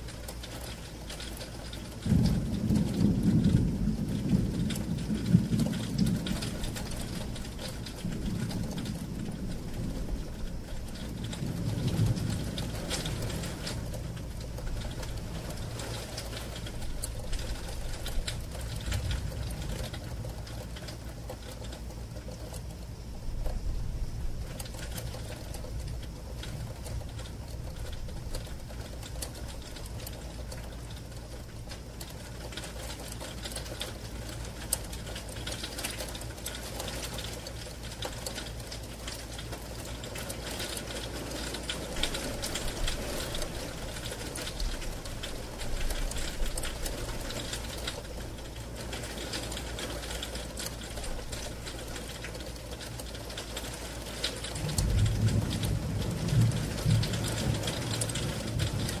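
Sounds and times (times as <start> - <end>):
rain ticking on window glass: 0.0 - 59.0.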